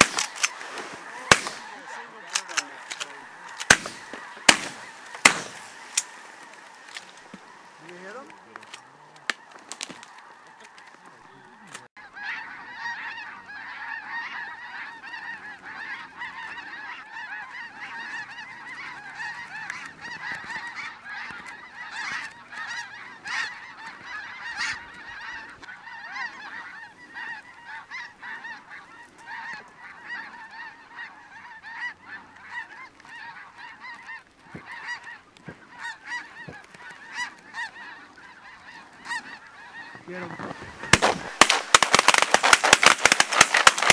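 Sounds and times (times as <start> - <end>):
geese honking overhead: 0.0 - 43.9.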